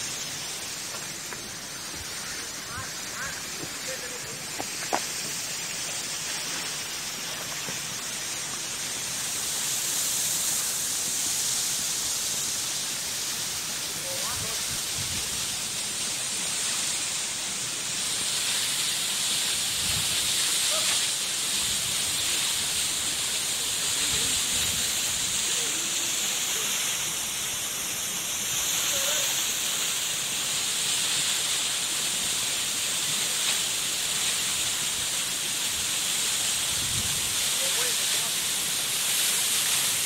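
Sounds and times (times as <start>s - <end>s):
waterfall rushing hiss: 0.0s - 40.0s.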